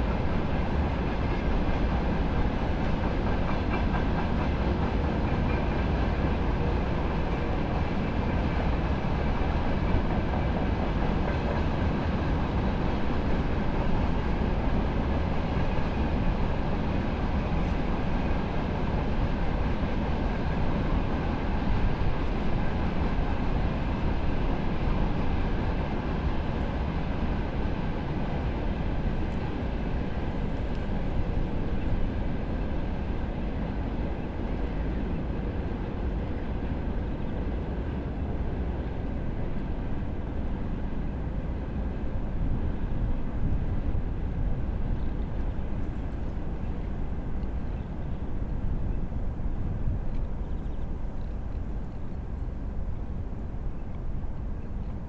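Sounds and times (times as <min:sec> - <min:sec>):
train passing: 0:00.0 - 0:55.0.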